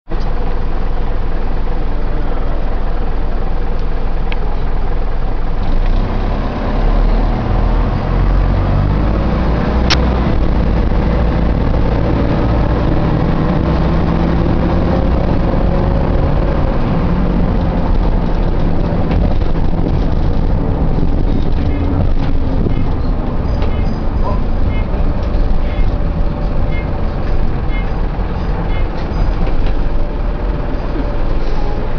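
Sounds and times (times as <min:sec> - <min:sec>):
bus engine rumbling: 0:00.0 - 0:31.9.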